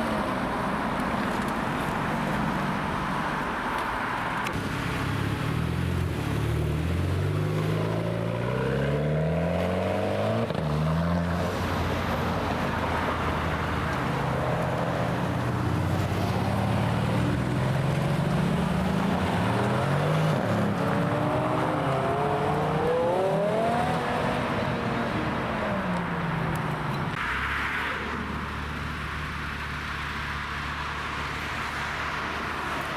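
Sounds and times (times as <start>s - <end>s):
car engines revving: 0.0s - 32.9s.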